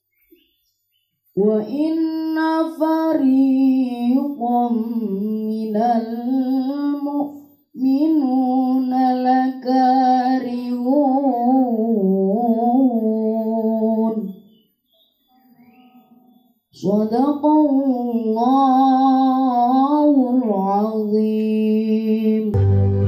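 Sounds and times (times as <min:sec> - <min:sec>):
boy chanting into a microphone: 0:01.4 - 0:22.6.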